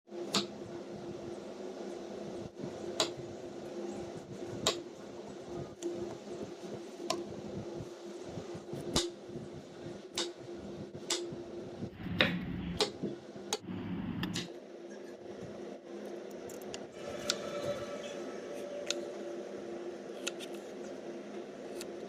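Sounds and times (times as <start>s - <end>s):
low hum: 0.1s - 22.0s.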